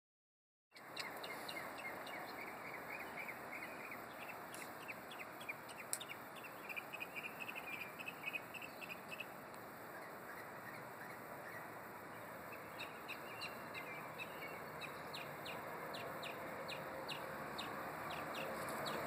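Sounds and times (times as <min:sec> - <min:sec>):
bird chirping: 0:00.7 - 0:19.0
background hiss: 0:00.8 - 0:19.0.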